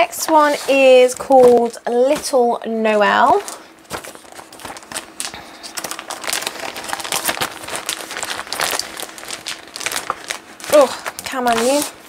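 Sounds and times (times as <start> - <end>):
plastic packet crinkling: 1.0 - 12.0.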